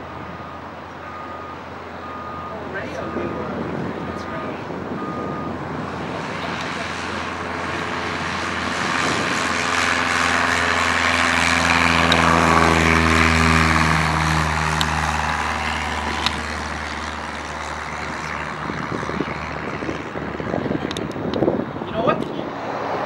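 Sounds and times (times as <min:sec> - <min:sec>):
propeller airplane passing: 0:00.0 - 0:23.0.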